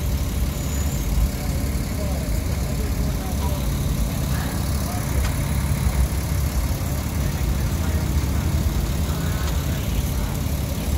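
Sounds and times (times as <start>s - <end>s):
truck engine idling: 0.0s - 10.9s.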